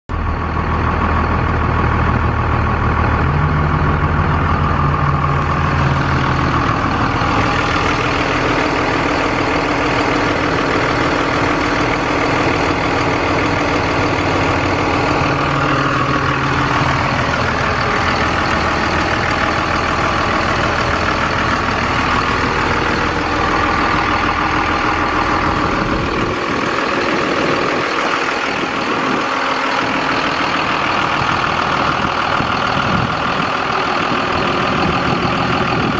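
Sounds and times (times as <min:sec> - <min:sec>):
diesel truck engine running: 0:00.1 - 0:35.9.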